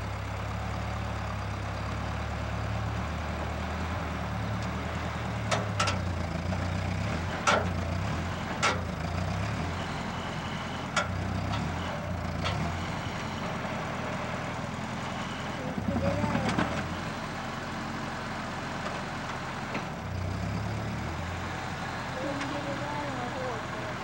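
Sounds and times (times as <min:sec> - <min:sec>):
tractor engine under load: 0:00.0 - 0:24.0.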